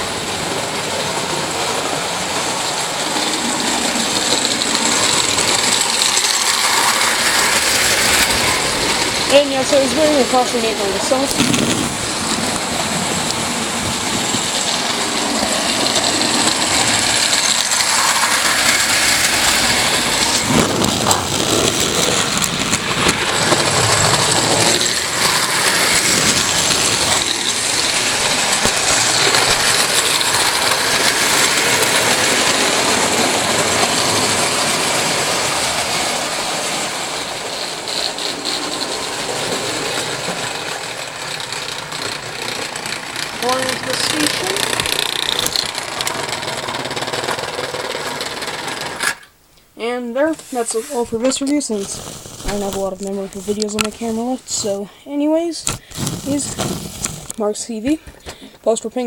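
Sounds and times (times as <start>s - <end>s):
toy train rattling on track: 0.0s - 49.4s, 50.3s - 57.6s.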